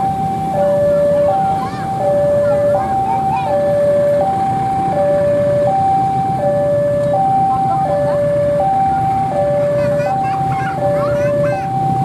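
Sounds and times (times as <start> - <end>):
diesel locomotive rumble: 0.0 - 12.0
two-tone railway warning alarm: 0.0 - 12.0.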